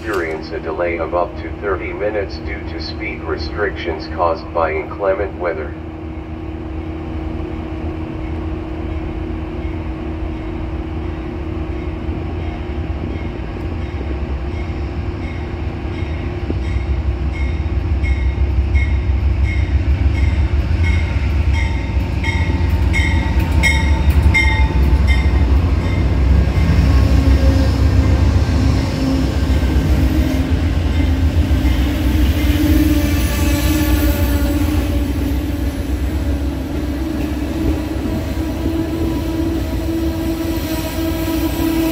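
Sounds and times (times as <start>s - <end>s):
diesel locomotive rumbling: 0.0s - 41.9s.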